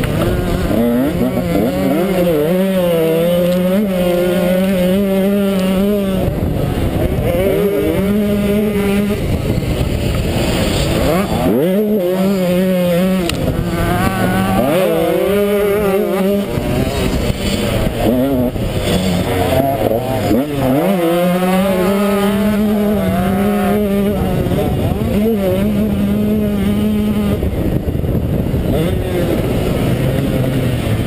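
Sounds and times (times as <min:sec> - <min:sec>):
motocross bike engine revving: 0:00.0 - 0:31.0
wind rushing on microphone: 0:00.0 - 0:31.0.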